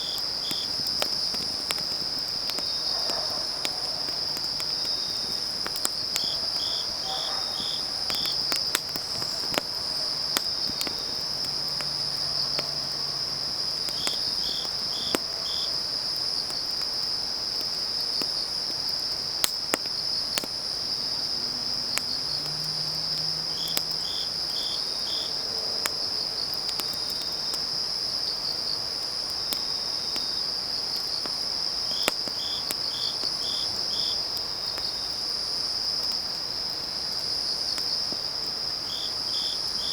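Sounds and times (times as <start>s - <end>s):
grass insects trilling: 0.0s - 39.9s
insect chirping: 0.0s - 39.9s
wood fire crackling: 0.0s - 39.9s.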